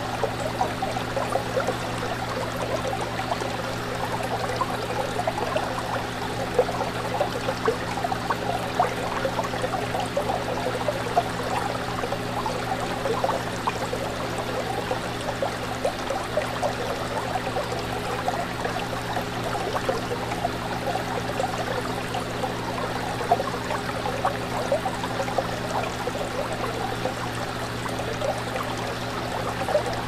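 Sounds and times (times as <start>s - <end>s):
bubbles popping: 0.0s - 30.0s
fish tank water bubbling: 0.0s - 30.0s.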